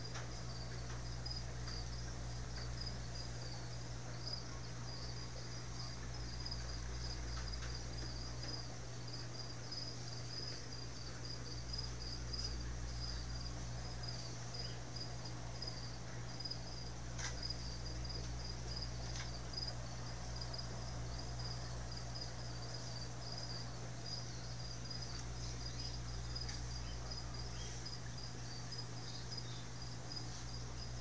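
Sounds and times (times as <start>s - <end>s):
crickets chirping: 0.0s - 31.0s
low steady hum: 0.0s - 31.0s.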